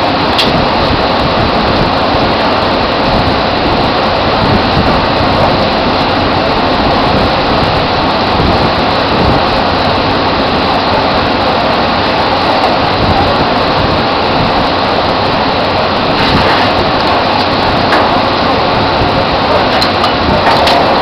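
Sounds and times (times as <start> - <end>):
drilling rig machinery din: 0.0 - 21.0.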